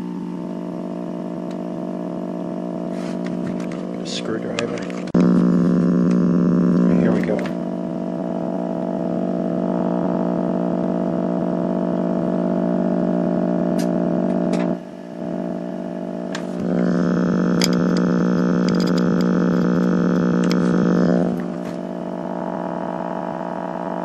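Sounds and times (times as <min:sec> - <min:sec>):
electrical buzz from radio: 0:00.0 - 0:24.0.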